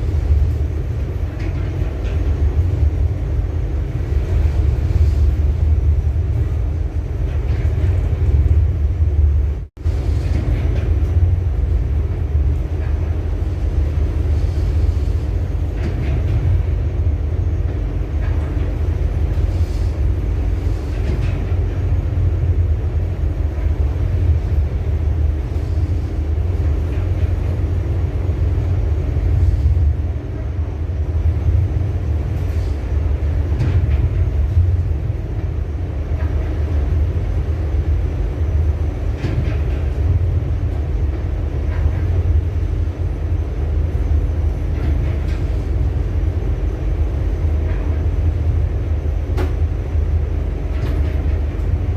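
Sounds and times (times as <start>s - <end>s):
ship engine droning: 0.0s - 51.9s.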